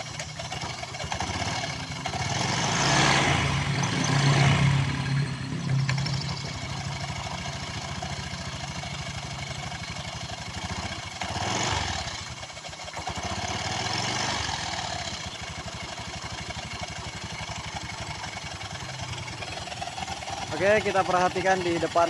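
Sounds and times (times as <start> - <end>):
scooter engine idling and revving: 0.0 - 22.0.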